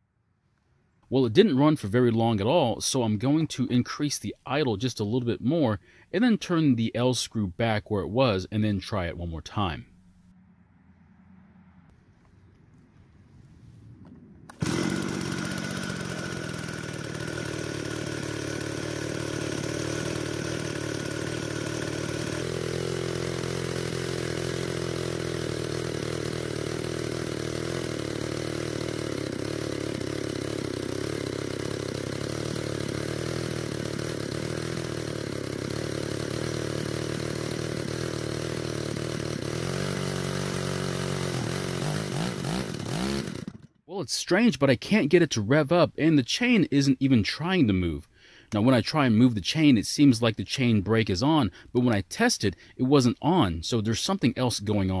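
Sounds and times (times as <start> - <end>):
chainsaw engine running: 1.2 - 9.9, 14.5 - 55.0.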